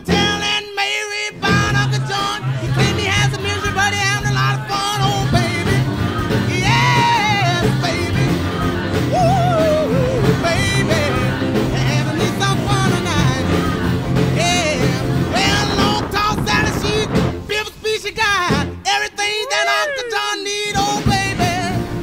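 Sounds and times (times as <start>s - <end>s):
rock song with singing: 0.0s - 22.0s.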